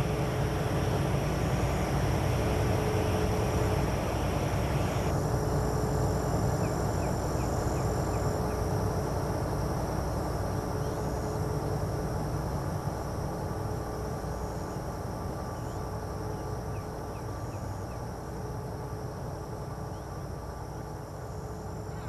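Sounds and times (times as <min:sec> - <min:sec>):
faint constant hum: 0:00.0 - 0:22.0
low rumbling background noise: 0:00.0 - 0:22.0.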